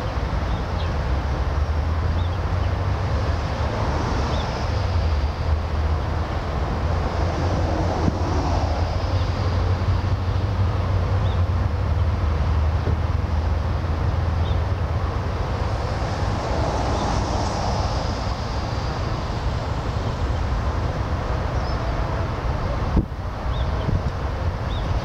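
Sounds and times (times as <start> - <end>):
wind buffeting microphone: 2.0 - 12.0, 14.1 - 25.0.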